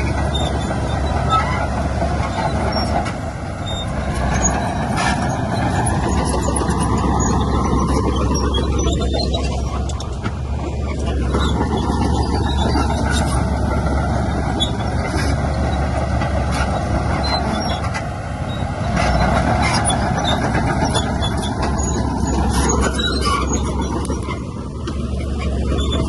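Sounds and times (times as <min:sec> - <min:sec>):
diesel earthmoving machinery running: 0:00.0 - 0:26.0.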